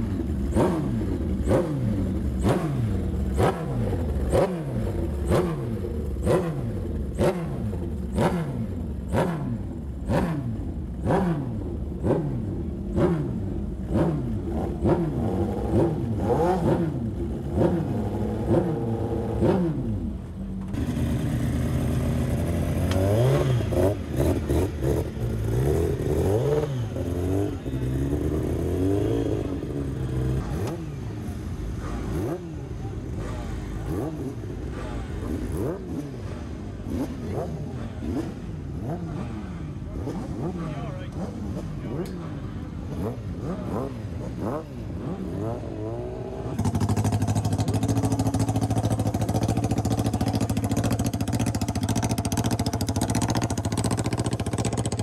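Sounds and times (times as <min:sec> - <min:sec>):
motorcycle engine revving: 0:00.0 - 0:55.0
other engines running: 0:00.0 - 0:55.0.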